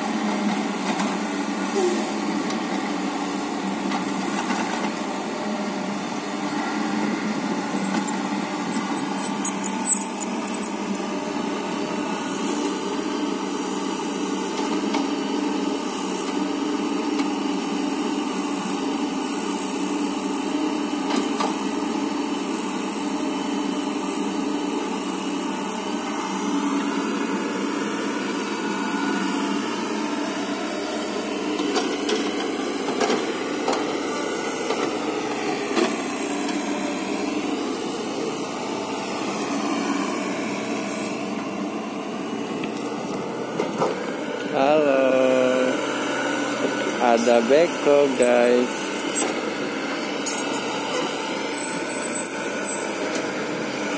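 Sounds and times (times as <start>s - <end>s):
diesel engine running: 0.0s - 21.1s, 21.7s - 53.9s.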